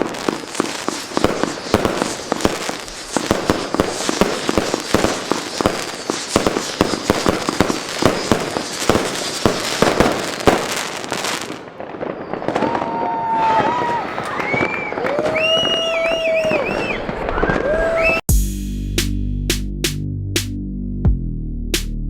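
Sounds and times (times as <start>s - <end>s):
firework bangs and crackling: 0.0s - 18.2s
screeching firework tails: 0.0s - 18.2s.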